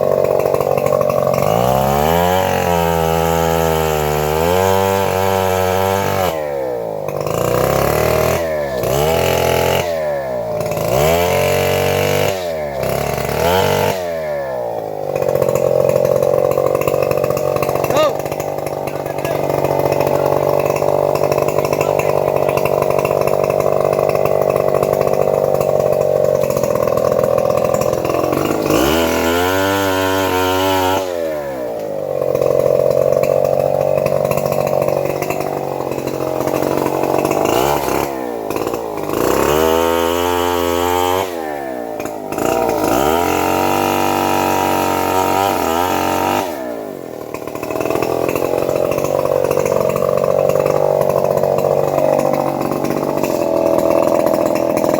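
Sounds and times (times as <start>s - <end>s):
power saw engine running: 0.0s - 54.9s.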